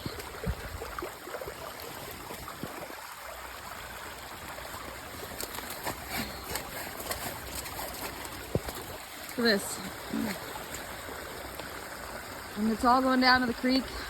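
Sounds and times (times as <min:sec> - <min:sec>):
water rushing across field: 0:00.0 - 0:14.0.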